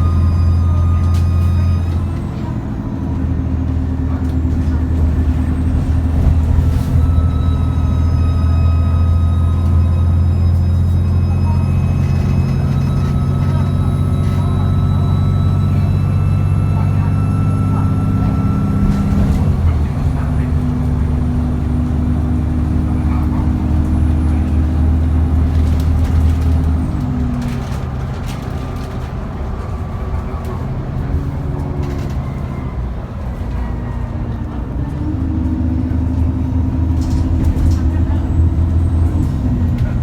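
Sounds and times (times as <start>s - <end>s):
diesel bus engine running: 0.0s - 40.0s.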